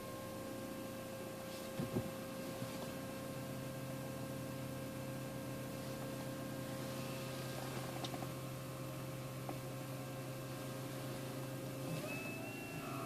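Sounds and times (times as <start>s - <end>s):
power steering pump humming: 0.0s - 13.0s.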